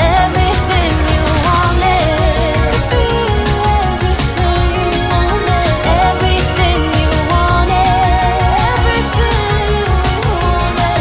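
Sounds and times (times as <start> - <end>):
background pop music: 0.0 - 11.0.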